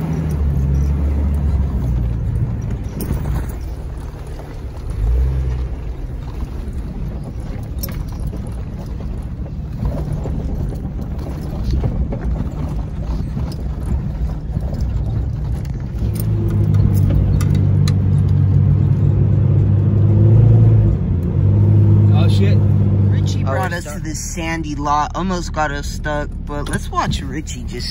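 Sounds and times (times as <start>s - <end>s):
off-road engine rumbling: 0.0s - 27.9s.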